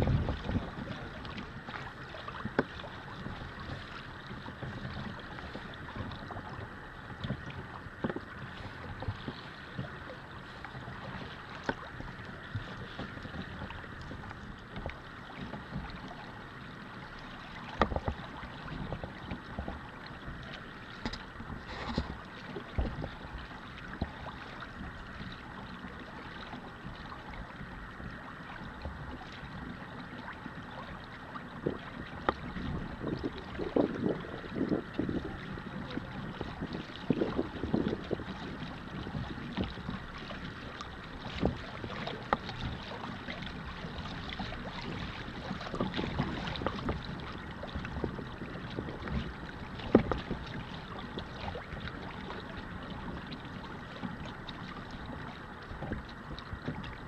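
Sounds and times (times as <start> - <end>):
wind on microphone: 0.0 - 16.3, 21.0 - 25.6, 26.4 - 57.0
water lapping against hull: 0.0 - 57.0.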